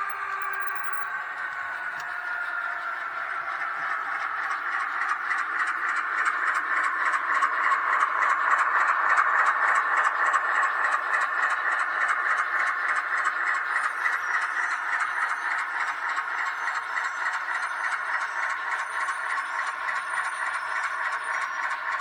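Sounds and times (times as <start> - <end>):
model train rattling: 0.0 - 22.0
rail joint clicks: 0.0 - 22.0.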